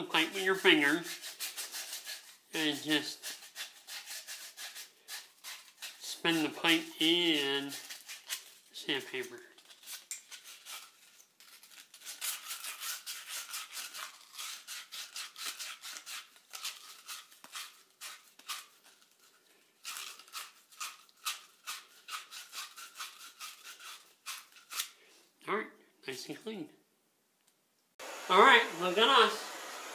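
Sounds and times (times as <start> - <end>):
sandpaper rubbing copper pipe: 0.0 - 25.0.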